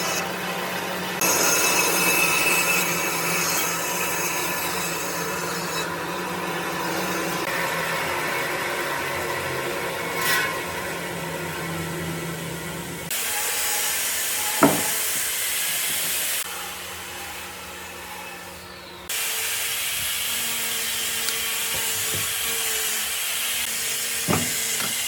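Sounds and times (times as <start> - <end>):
power tool grinding wood: 0.0 - 12.3, 13.0 - 25.0.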